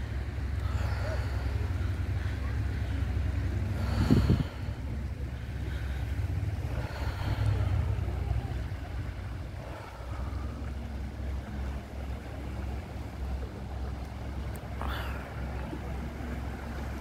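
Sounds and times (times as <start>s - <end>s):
river rushing: 0.0s - 17.0s
wind buffeting microphone: 1.6s - 17.0s.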